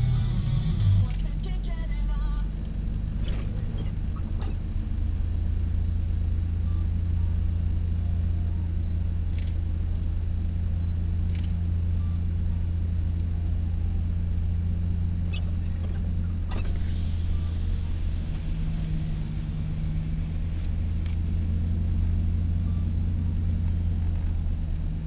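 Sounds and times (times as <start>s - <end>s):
engine and tyre drone: 0.0s - 25.0s.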